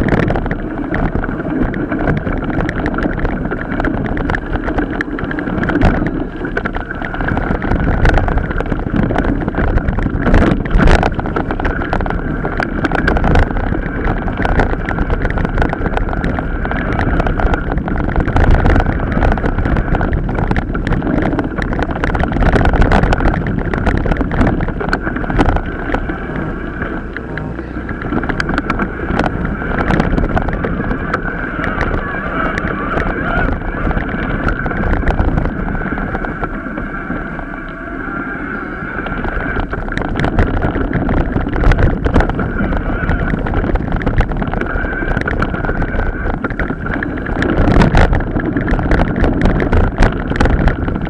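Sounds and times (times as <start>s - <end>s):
bike rattling and knocking: 0.0s - 37.5s, 38.9s - 51.0s
bike tyres rumbling over rough ground: 0.0s - 51.0s
wind on microphone: 0.0s - 51.0s.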